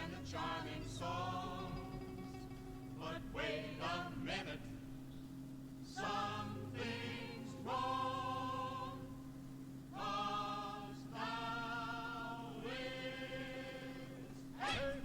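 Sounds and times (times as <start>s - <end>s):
choir-like voices singing held notes: 0.0s - 5.0s, 5.8s - 15.0s
steady low hum: 0.0s - 15.0s.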